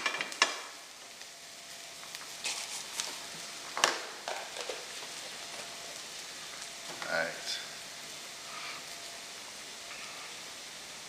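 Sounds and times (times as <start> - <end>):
low sizzle in a pan: 0.0 - 11.0.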